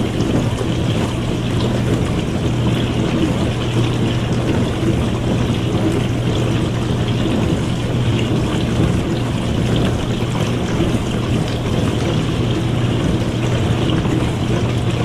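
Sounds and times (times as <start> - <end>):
dishwasher motor hum: 0.0 - 15.0.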